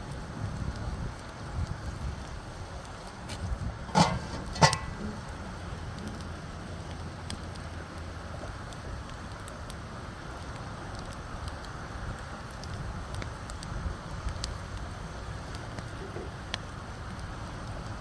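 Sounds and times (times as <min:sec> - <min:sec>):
fire pops and crackles: 0:00.0 - 0:18.0
low fire rumble: 0:00.0 - 0:18.0.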